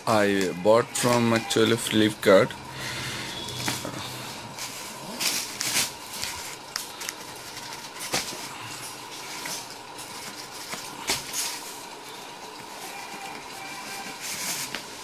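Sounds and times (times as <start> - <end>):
bubble wrap crinkling: 1.0 - 15.0.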